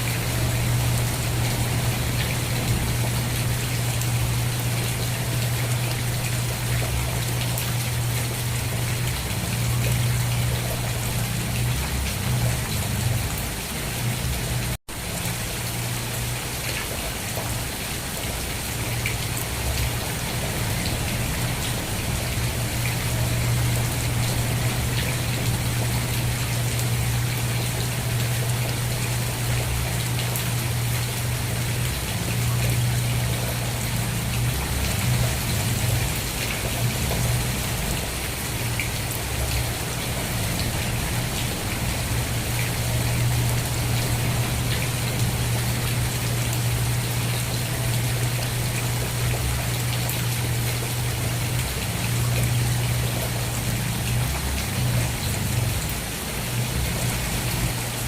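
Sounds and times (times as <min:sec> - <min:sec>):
constant low hum: 0:00.0 - 0:58.0
steady rain: 0:00.0 - 0:58.0.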